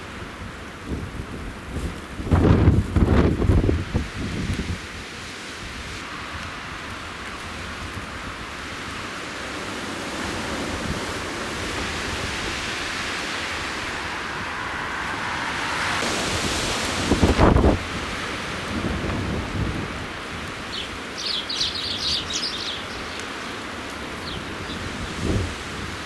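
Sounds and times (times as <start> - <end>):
wind gusts rushing: 0.2 - 26.0.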